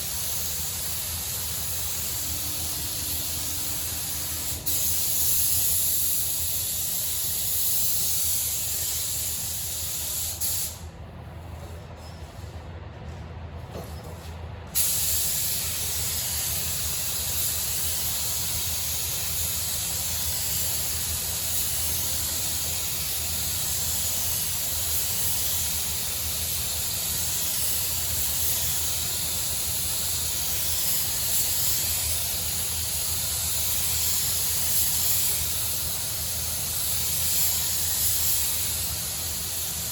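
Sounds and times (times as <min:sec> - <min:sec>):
paint spray gun hissing: 0:00.0 - 0:10.8, 0:14.8 - 0:39.9.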